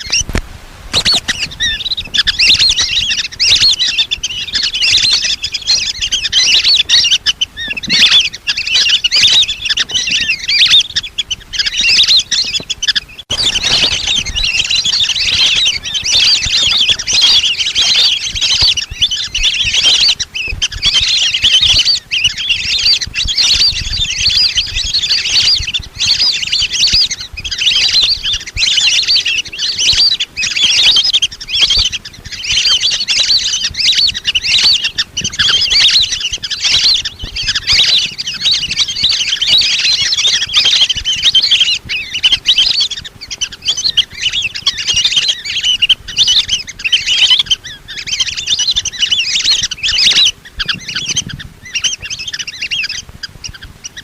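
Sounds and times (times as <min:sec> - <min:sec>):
ducks whistling calls: 0:00.0 - 0:54.0.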